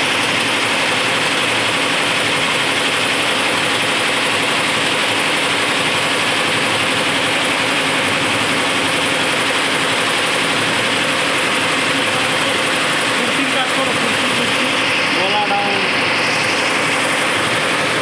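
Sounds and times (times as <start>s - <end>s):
embroidery machine clattering: 0.0s - 18.0s.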